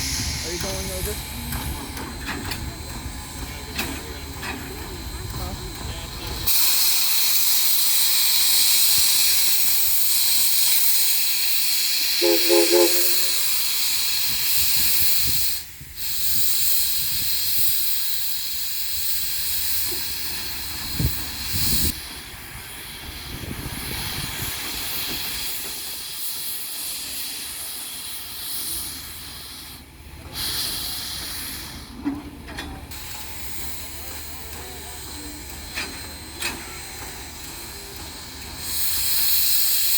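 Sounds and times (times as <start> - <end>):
steam locomotive hissing: 0.0 - 39.9.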